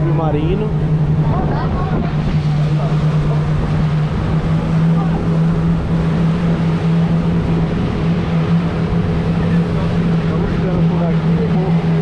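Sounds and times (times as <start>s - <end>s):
boat engine hum: 0.0s - 12.0s
rushing wind: 0.0s - 12.0s
water rushing: 0.0s - 12.0s.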